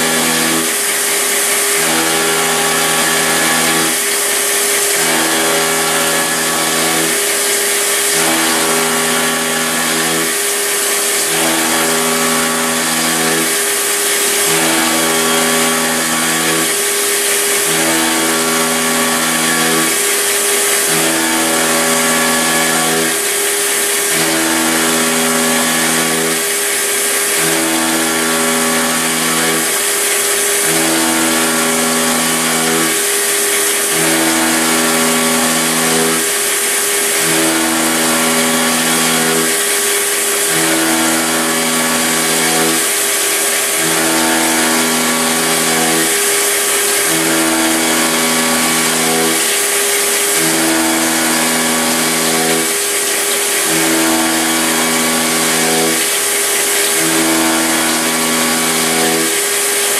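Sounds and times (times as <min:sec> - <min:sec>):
milling machine spindle running: 0:00.0 - 0:59.9
stepper motor tones: 0:00.0 - 0:59.9.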